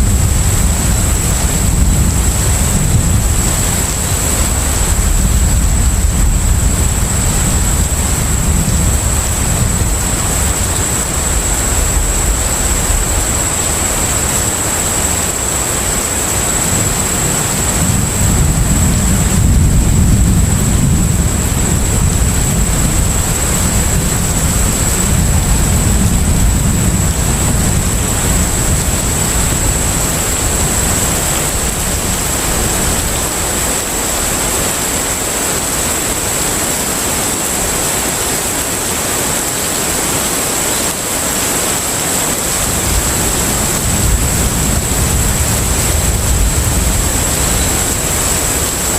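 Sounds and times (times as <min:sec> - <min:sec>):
ship engine low rumble: 0:00.0 - 0:48.9.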